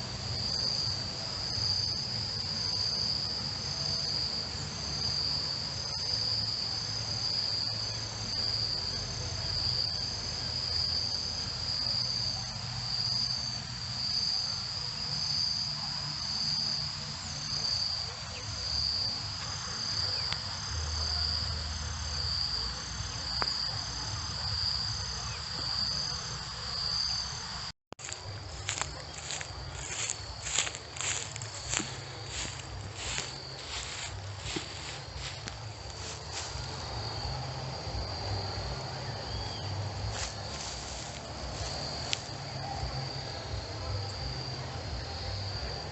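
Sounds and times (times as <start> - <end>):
crickets chirping chorus: 0.0 - 45.9.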